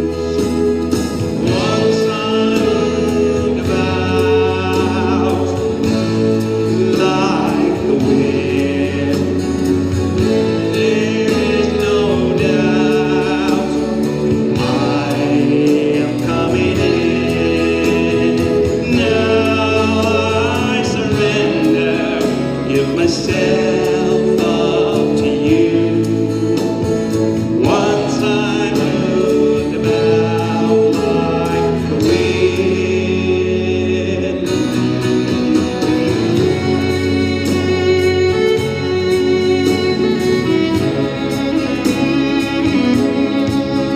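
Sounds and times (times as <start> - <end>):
steady bass: 0.0 - 43.9
sustained backing chords: 0.0 - 43.9
violin melody with vibrato: 0.0 - 43.9.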